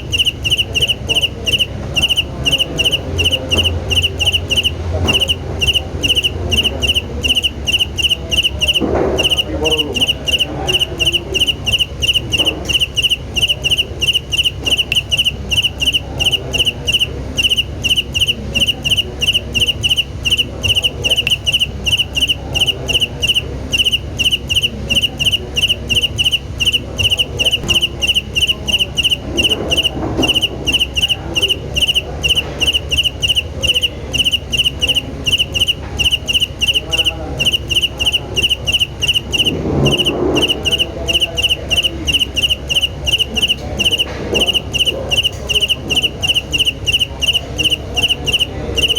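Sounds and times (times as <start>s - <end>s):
cricket chirping: 0.0s - 48.9s.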